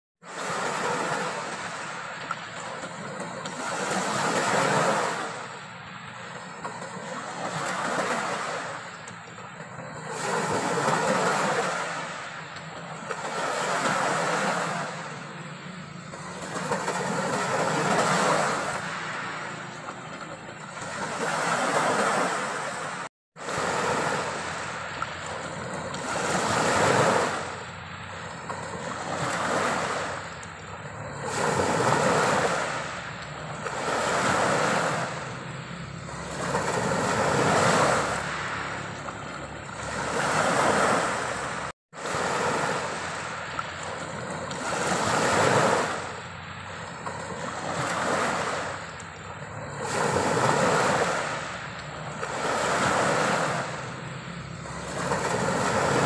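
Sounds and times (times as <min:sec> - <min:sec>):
waves washing on pebble beach: 0:00.2 - 0:56.0.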